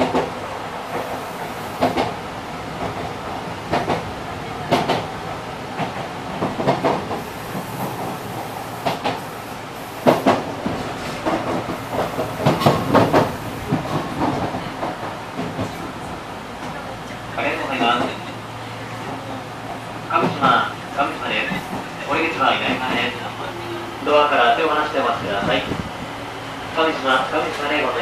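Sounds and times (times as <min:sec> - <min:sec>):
wheels clacking on rails: 0:00.0 - 0:25.9
electric train running rumble: 0:00.0 - 0:28.0.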